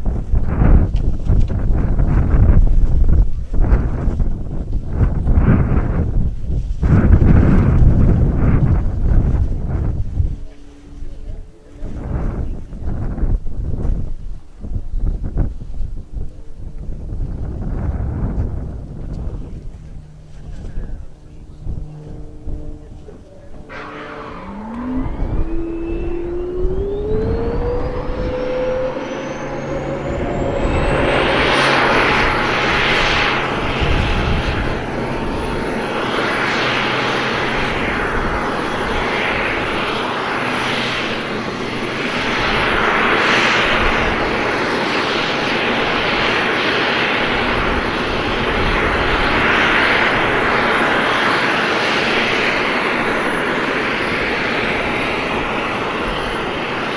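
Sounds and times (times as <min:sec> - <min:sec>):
jet engine rushing roar: 0:00.0 - 0:56.9
jet engine whine: 0:00.0 - 0:56.9.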